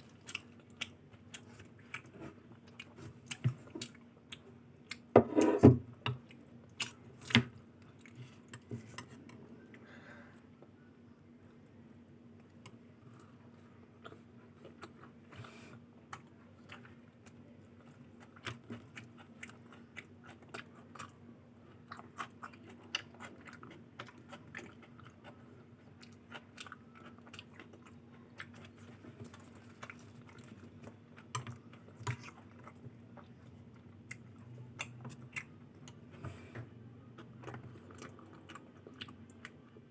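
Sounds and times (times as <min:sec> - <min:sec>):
close chewing and crunching: 0:00.0 - 0:05.1, 0:06.1 - 0:09.9, 0:12.4 - 0:36.1, 0:37.0 - 0:39.9
faint low hum: 0:00.0 - 0:39.9.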